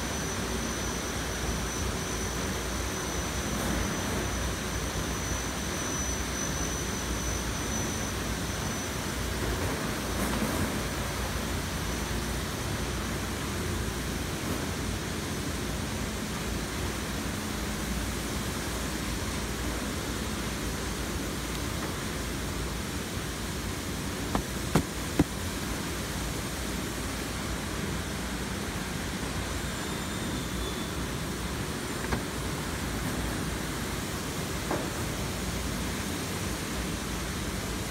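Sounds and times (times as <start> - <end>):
conveyor machinery running: 0.0 - 37.9
machine and ventilation noise: 0.0 - 37.9.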